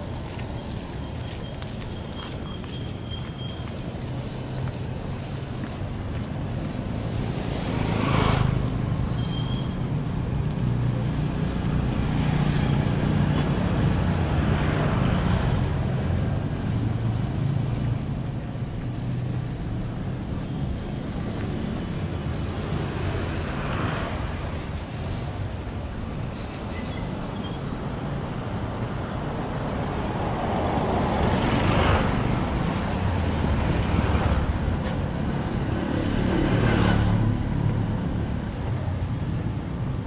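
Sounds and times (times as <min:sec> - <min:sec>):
vehicles passing: 0:00.0 - 0:40.0.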